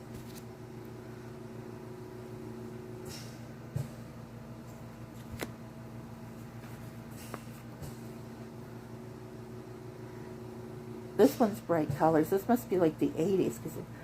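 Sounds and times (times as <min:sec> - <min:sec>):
electric fan hum: 0:00.0 - 0:14.0
oxygen concentrator hum: 0:00.0 - 0:14.0.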